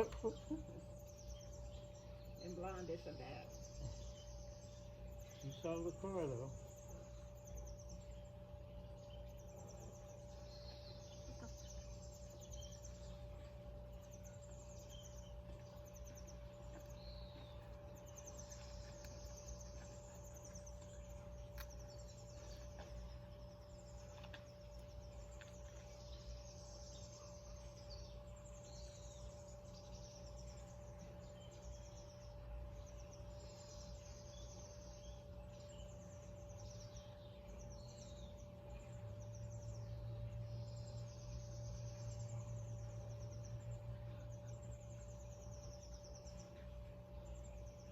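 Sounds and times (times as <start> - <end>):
birds chirping and trilling: 0.0 - 47.9
steady low hum: 0.0 - 47.9.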